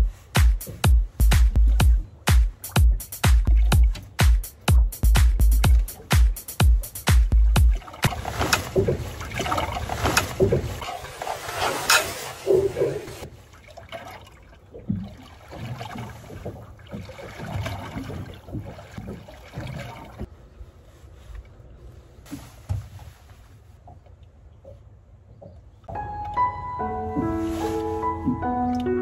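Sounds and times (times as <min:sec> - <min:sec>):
water lapping against boat hull: 0:00.0 - 0:29.0.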